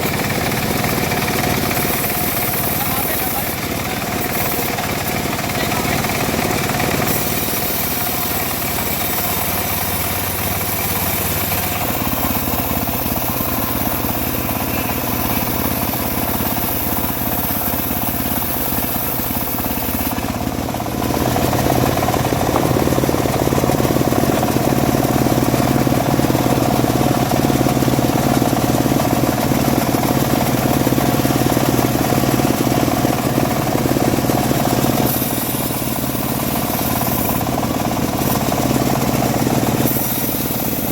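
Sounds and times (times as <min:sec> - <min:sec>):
engine-driven bandsaw sawing wood: 0:00.0 - 0:40.9.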